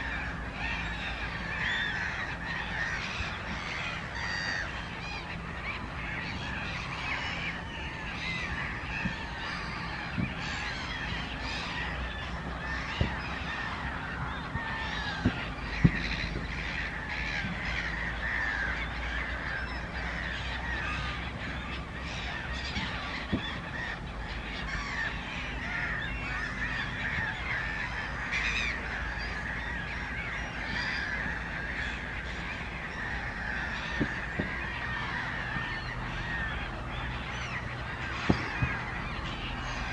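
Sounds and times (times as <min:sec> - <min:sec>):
flock of waterbirds calling: 0:00.0 - 0:39.9.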